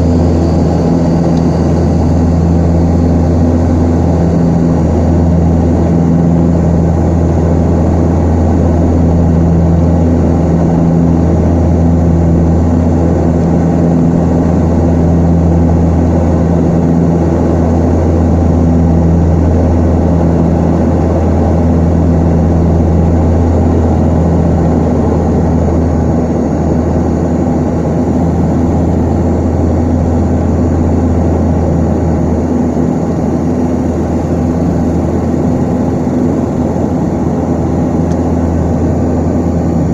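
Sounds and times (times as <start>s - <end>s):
turboprop engines humming: 0.0s - 39.9s.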